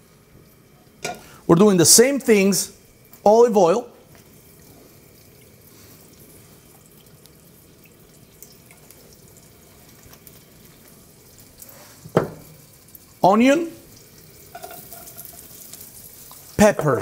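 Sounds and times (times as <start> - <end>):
oil sizzling in pan: 0.0 - 17.0
oil trickling: 2.3 - 17.0.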